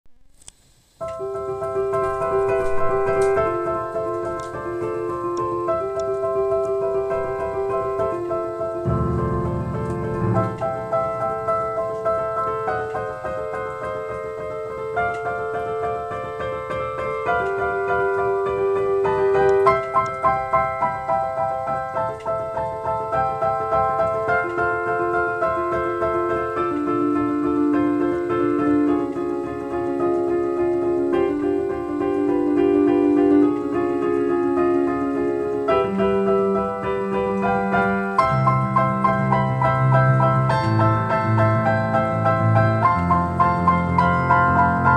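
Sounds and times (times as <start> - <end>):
piano-like keyboard melody: 1.0 - 44.9.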